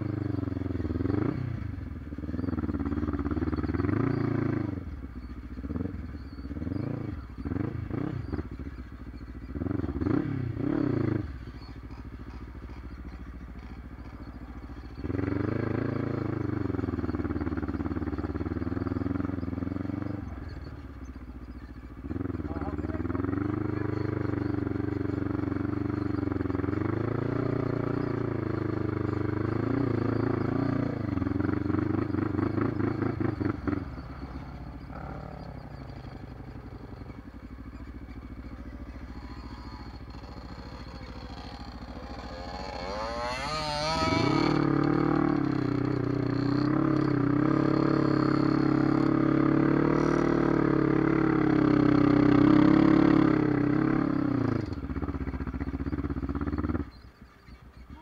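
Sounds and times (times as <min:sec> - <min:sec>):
quad engine revving: 0:00.0 - 0:05.0, 0:05.6 - 0:57.0.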